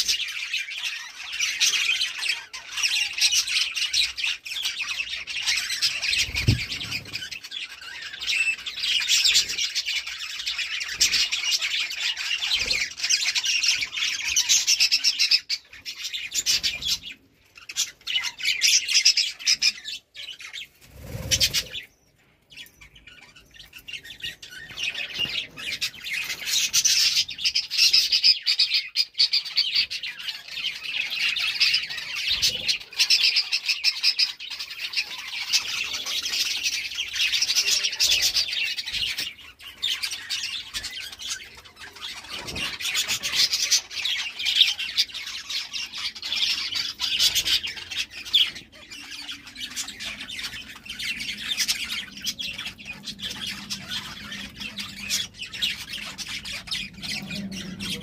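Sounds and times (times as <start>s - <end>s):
budgerigars chattering and warbling: 0.0s - 58.0s.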